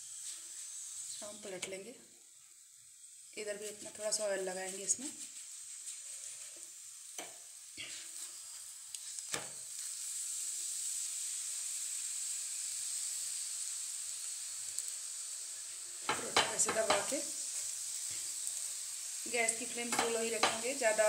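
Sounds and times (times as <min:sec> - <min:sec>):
oil sizzling: 0:00.0 - 0:21.0.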